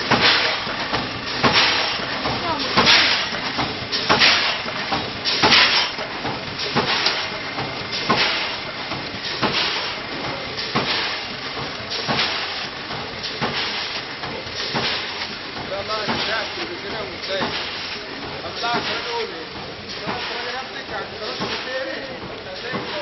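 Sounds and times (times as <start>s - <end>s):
packing machine rushing hiss: 0.0s - 23.0s.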